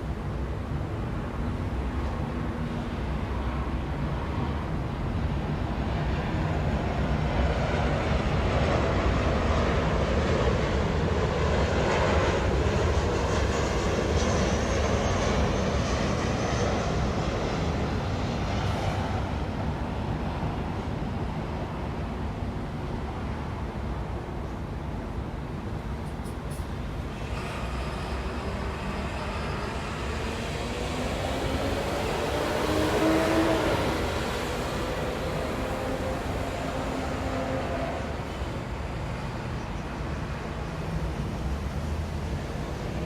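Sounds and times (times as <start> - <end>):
airplane engine rumble overhead: 0.0 - 43.0
city traffic noise: 0.0 - 43.0.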